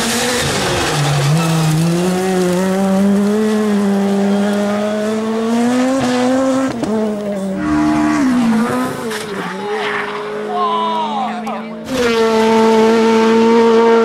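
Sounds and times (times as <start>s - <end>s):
rally car engine at high revs: 0.0s - 14.0s.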